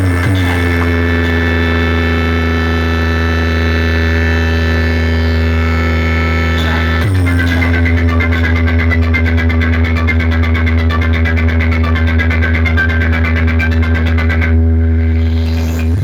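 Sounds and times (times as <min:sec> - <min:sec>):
low bass drone: 0:00.0 - 0:16.0
music through speakers: 0:00.0 - 0:16.0.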